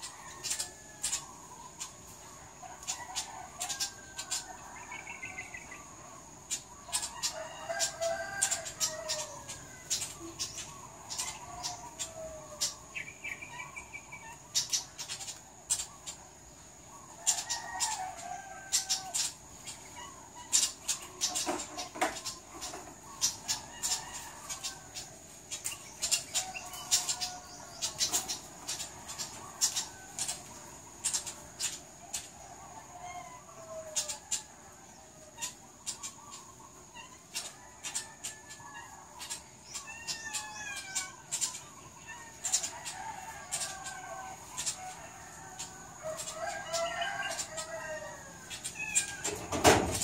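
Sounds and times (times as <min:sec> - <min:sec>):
birds calling: 0:00.0 - 0:50.0.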